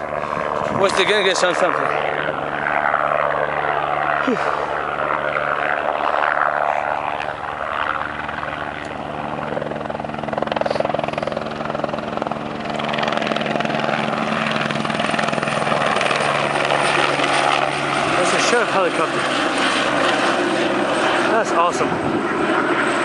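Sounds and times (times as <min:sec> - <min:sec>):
helicopter engine drone: 0:00.0 - 0:23.0
helicopter rotor blades beating: 0:00.0 - 0:23.0.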